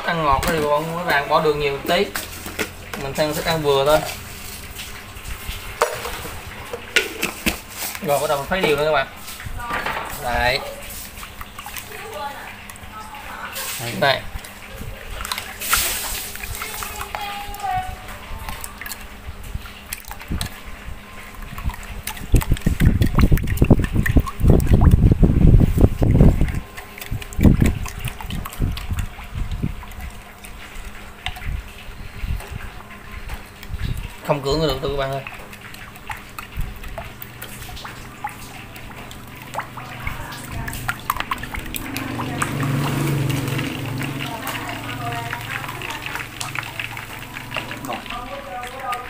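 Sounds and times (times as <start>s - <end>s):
liquid sloshing: 0.0s - 49.0s.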